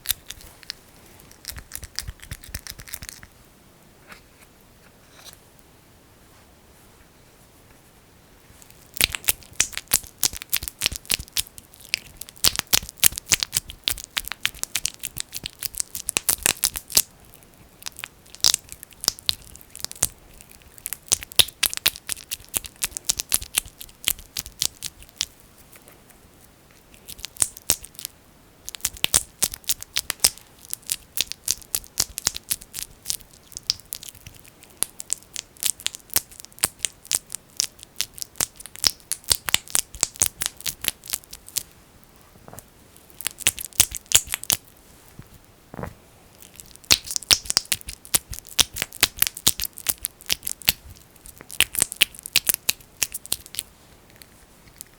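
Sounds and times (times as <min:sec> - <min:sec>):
fingers squishing sticky jelly: 0:00.0 - 0:03.3, 0:08.6 - 0:26.0, 0:26.7 - 0:41.7, 0:43.0 - 0:44.8, 0:46.3 - 0:54.9.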